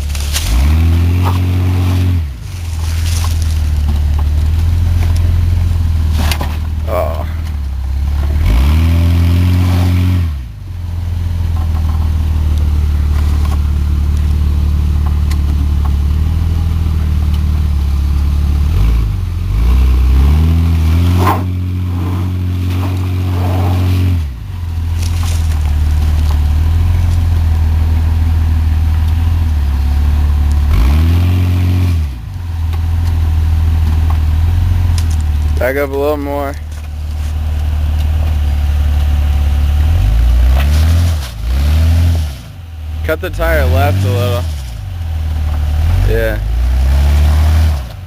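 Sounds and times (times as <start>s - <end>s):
suv engine revving: 0.0s - 48.0s.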